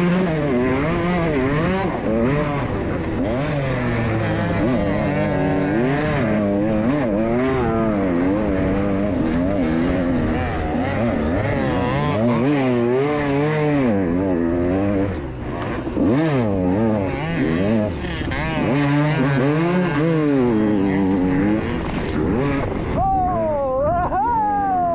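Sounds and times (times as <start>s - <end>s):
dirt bike engines revving: 0.0s - 24.9s.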